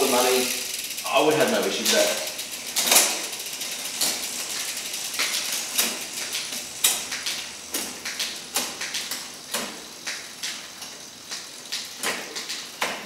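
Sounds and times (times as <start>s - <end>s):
bicycle chain running over cassette: 0.0s - 13.0s.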